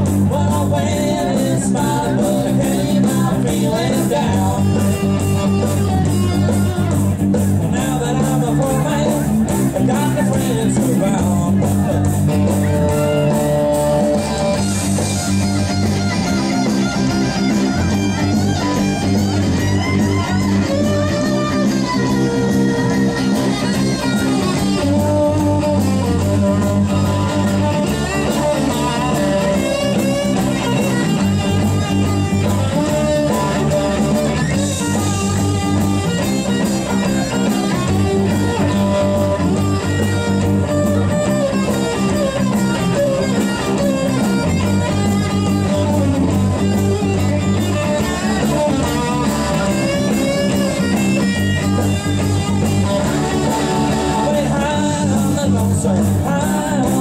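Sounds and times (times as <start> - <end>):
bass guitar: 0.0 - 57.0
drums: 0.0 - 57.0
electric guitars: 0.0 - 57.0.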